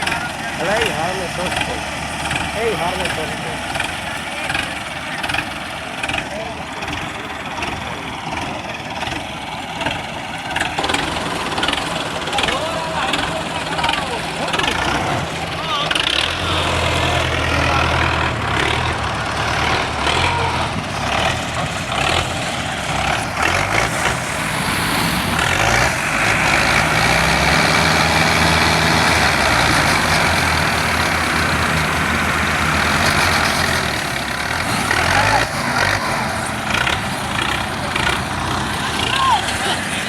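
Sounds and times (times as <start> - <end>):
tractor engine under load: 0.0 - 40.0.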